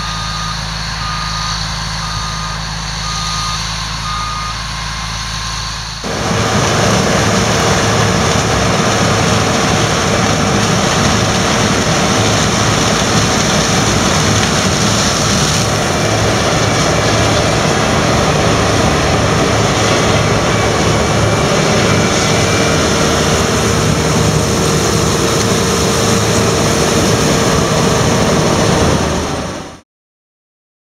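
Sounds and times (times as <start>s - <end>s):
combine harvester droning: 0.0s - 29.8s.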